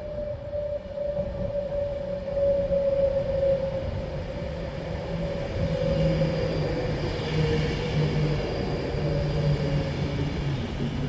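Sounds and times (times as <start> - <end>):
electric train whine: 0.0 - 11.0.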